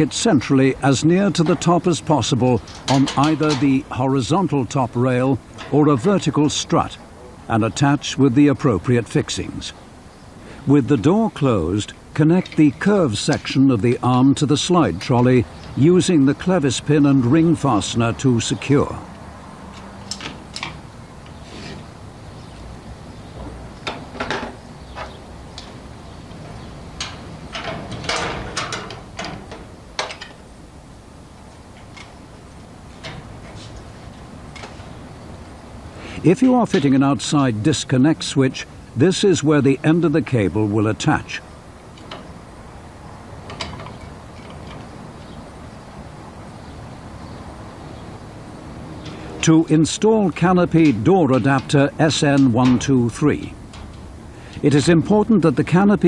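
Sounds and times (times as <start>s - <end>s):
low rumble with hiss: 0.0s - 56.0s.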